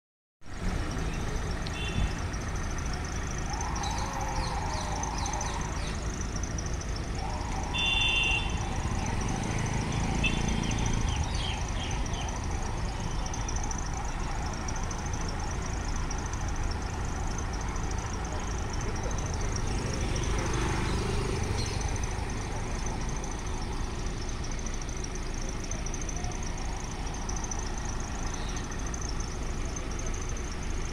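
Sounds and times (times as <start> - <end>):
vehicle engines idling: 0.5 - 30.9.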